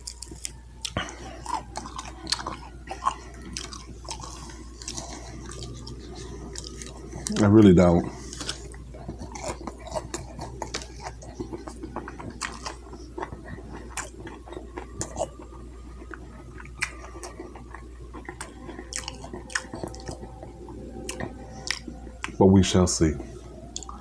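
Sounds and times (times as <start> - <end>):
wet mouth chewing: 0.0 - 22.4, 23.2 - 24.0.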